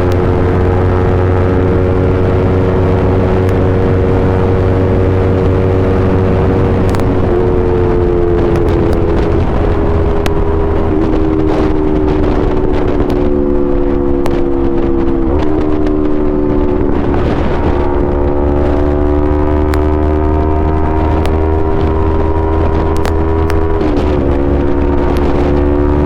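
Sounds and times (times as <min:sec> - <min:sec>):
low rumble: 0:00.0 - 0:26.0
motorcycle engine revving: 0:00.0 - 0:26.0.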